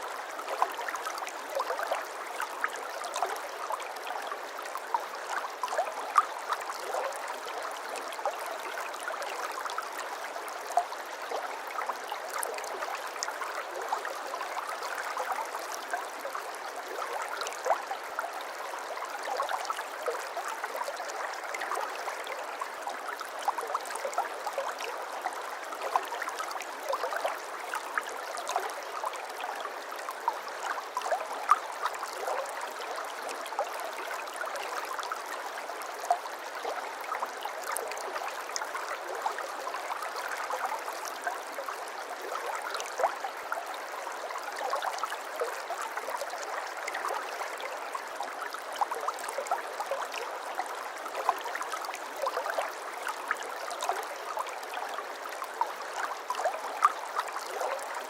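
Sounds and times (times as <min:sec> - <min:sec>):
babbling stream: 0:00.0 - 0:58.0.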